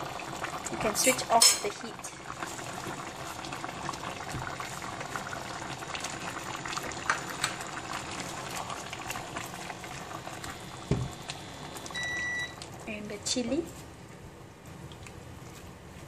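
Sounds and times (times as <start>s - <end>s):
curry bubbling in a pan: 0.0s - 12.9s.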